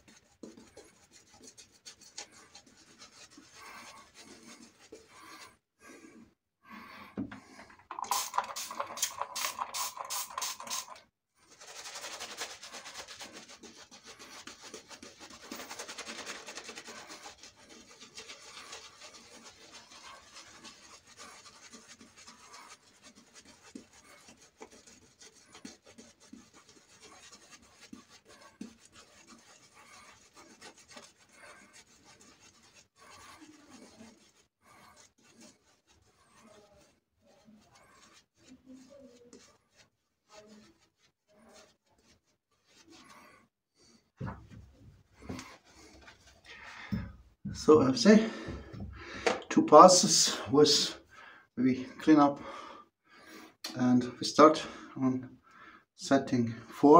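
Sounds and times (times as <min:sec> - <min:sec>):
shaving brush rubbing lather: 0:00.0 - 0:54.9, 0:56.0 - 0:56.9.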